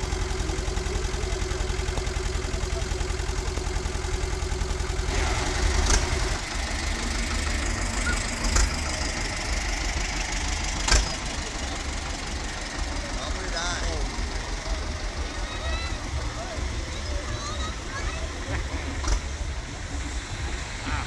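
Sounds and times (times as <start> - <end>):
tractor engines chugging: 0.0 - 21.0.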